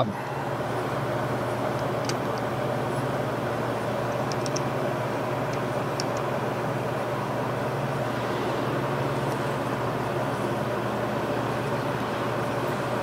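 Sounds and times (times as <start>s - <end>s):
shop machinery humming: 0.0s - 13.0s.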